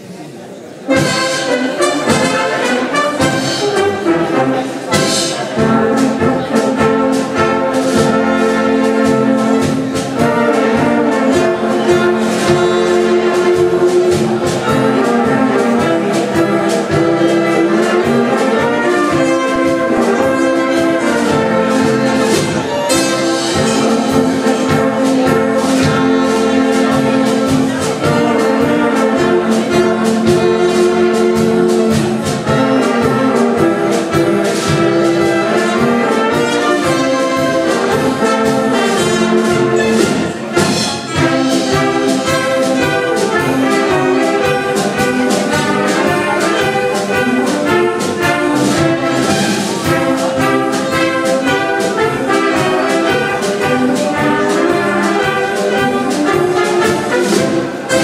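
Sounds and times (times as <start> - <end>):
brass band playing folk music: 0.0 - 58.0.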